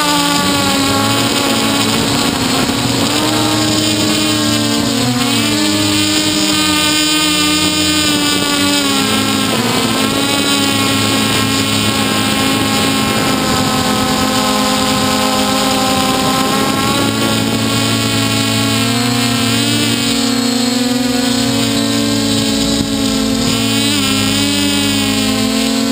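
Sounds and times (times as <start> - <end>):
drone motors whining: 0.0 - 25.9
wind noise: 0.0 - 25.9.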